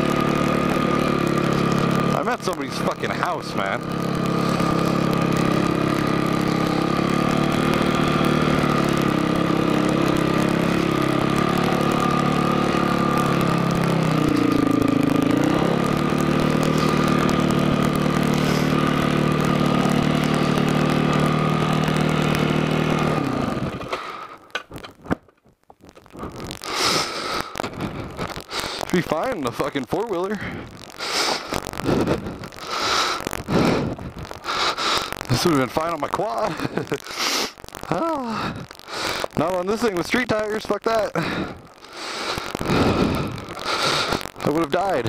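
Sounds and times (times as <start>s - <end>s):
dirt bike engine at low revs: 0.0s - 24.5s, 26.2s - 37.1s, 37.9s - 45.0s.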